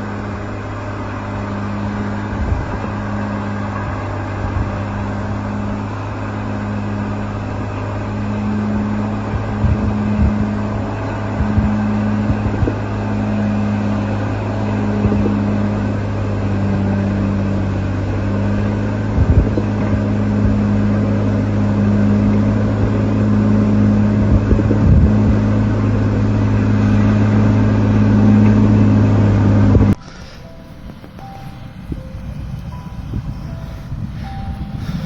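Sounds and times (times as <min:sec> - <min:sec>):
heavy engine running under load: 0:00.0 - 0:35.0.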